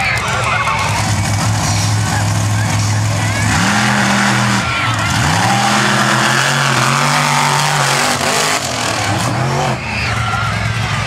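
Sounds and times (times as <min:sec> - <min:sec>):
monster truck engines revving: 0:00.0 - 0:11.0.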